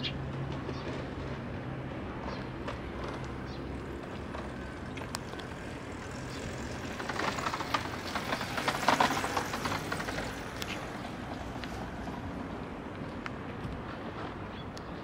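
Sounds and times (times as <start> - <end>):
vehicle passing with rattle: 0.1 - 12.8.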